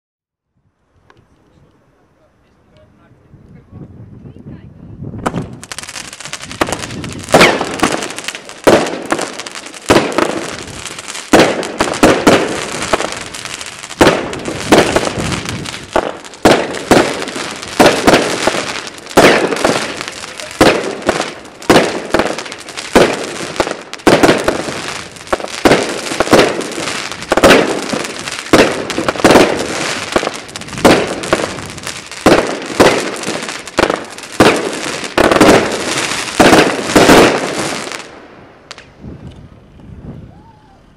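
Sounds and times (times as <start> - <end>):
firework bangs with echo: 5.2 - 39.0.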